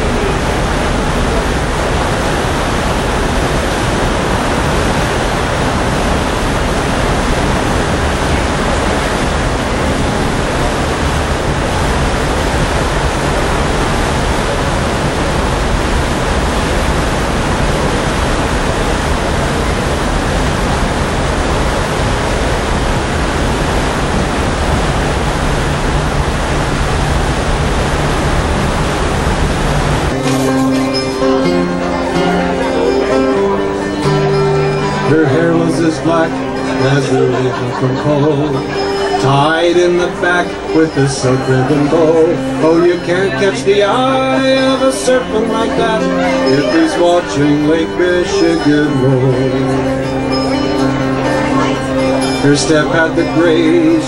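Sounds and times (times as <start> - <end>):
low steady hum: 0.0 - 54.0
rushing propeller wake: 0.0 - 54.0.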